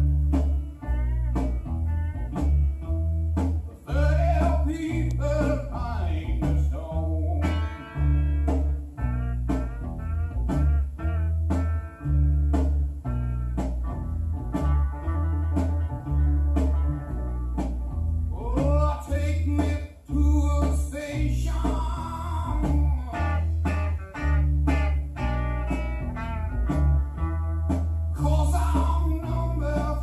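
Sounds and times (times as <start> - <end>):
blues guitar: 0.0 - 30.0
heavy pulsing bass line: 0.0 - 30.0.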